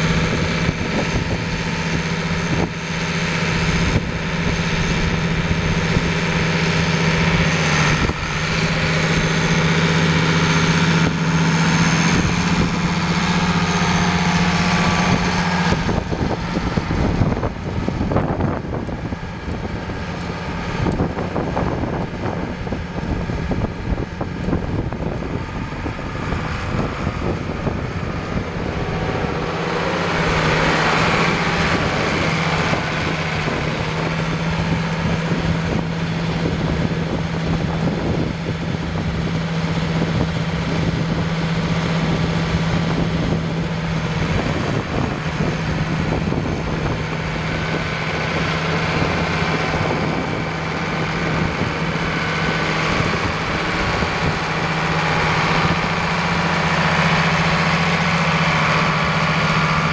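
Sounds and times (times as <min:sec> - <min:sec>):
diesel tractor engine running: 0:00.0 - 0:59.9
tractor driving across gravel: 0:00.0 - 0:59.9.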